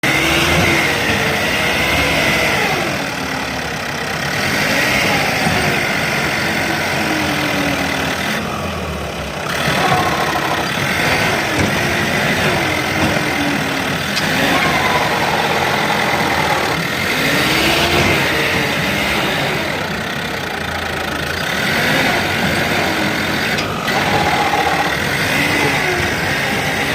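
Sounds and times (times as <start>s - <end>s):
tractor engine revving: 0.0s - 26.9s.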